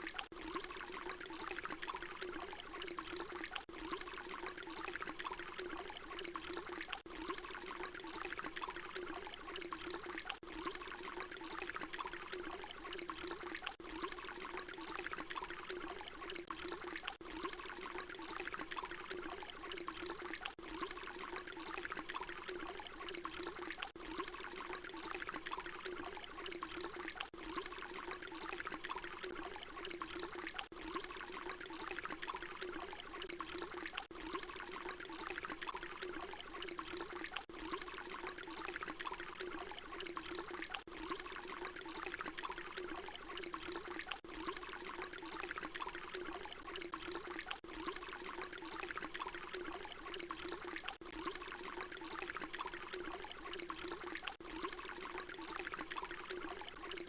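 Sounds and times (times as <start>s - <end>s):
water pouring in a stream: 0.0s - 57.0s.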